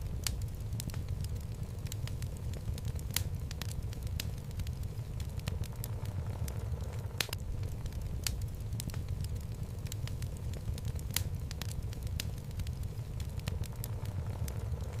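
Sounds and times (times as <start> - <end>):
fire crackles and pops: 0.0 - 15.0
low rumble of fire: 0.0 - 15.0.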